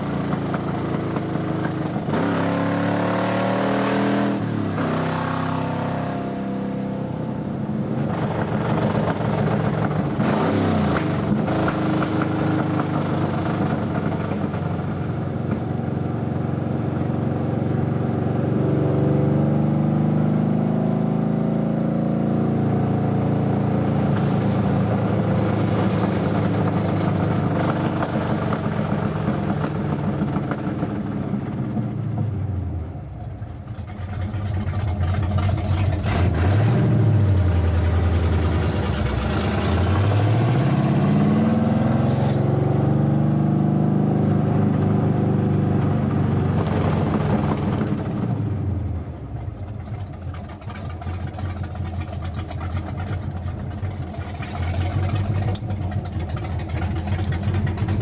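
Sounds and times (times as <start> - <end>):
car engine revving: 0.0 - 7.2, 7.8 - 15.6, 16.6 - 31.6, 33.7 - 58.0.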